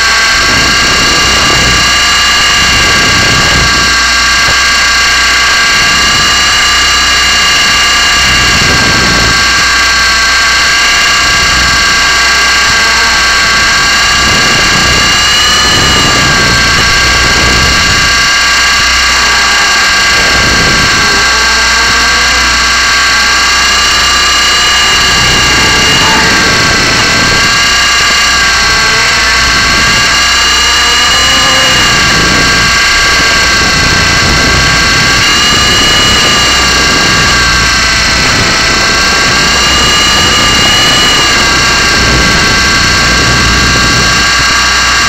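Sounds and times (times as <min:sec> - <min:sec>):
small electric motor whining: 0:00.0 - 0:45.0.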